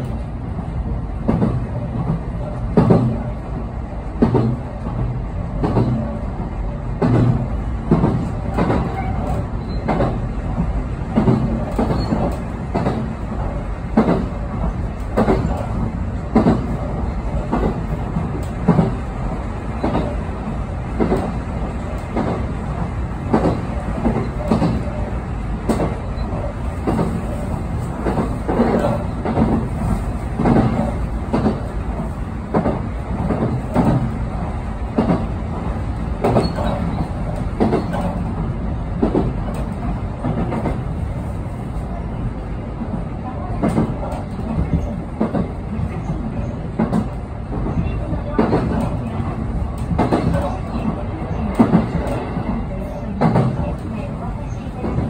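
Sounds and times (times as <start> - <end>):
train running gear rumble: 0.0 - 55.0.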